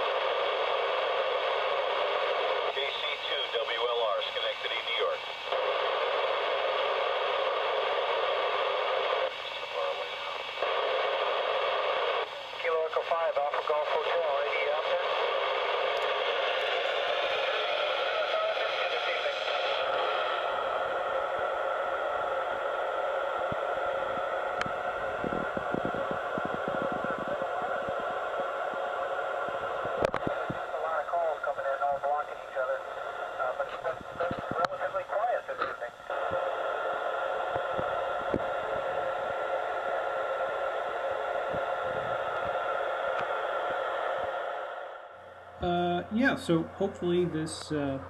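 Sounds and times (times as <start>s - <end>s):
radio static hiss: 0.0s - 48.0s.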